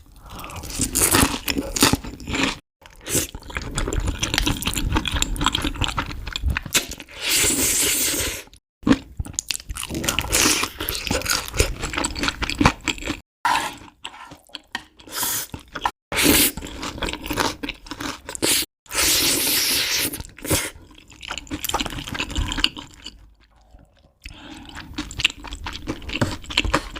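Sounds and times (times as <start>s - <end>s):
person chewing and crunching food: 0.0s - 26.9s.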